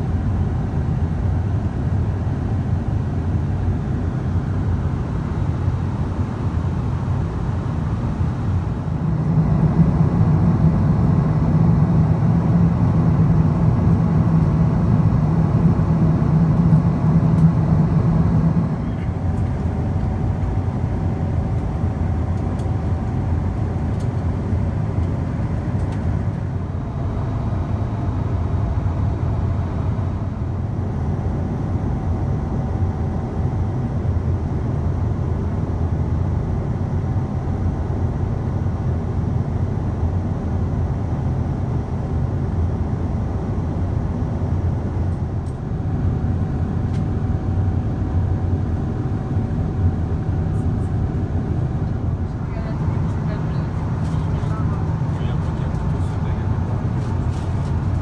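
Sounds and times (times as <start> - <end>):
airplane cabin rumble: 0.0 - 58.0
faint steady hum: 0.0 - 58.0.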